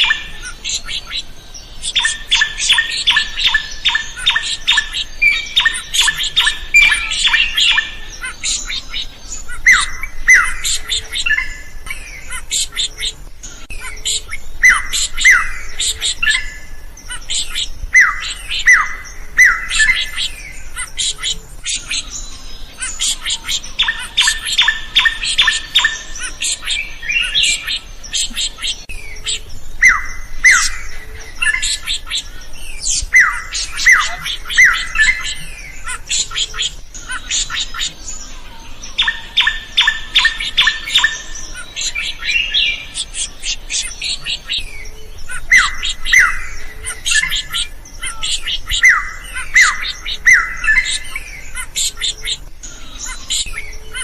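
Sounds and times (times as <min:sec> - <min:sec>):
bird singing harsh chatter and whistles: 0:00.0 - 0:54.0.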